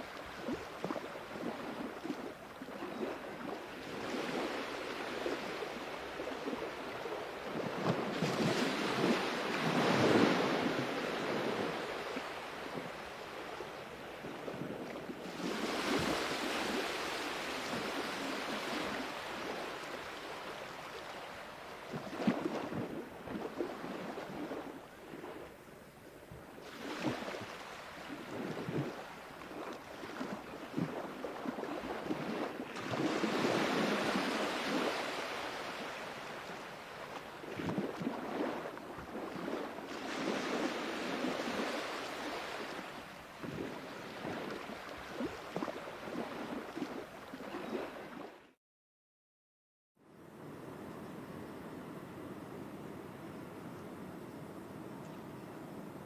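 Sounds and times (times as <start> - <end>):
sea waves breaking: 0.0 - 25.6, 26.6 - 48.4.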